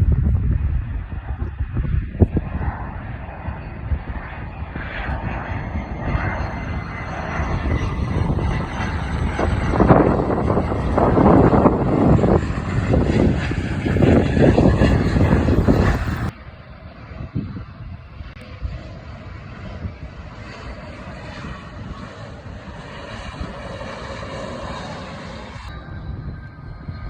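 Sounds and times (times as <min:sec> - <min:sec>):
aircraft engine noise: 0:00.0 - 0:27.0
wind buffeting microphone: 0:00.0 - 0:27.0.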